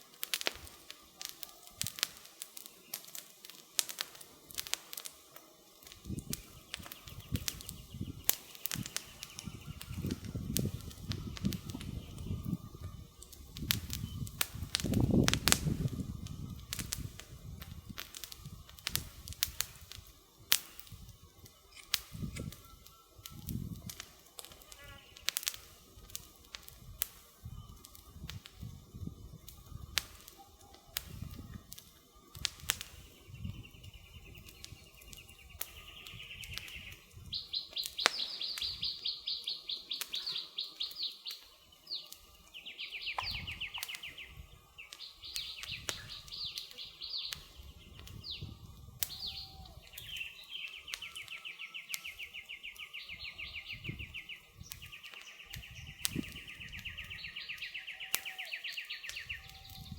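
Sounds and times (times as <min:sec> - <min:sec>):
campfire crackling: 0:00.0 - 0:59.9
songbird singing trills: 0:00.0 - 0:59.9.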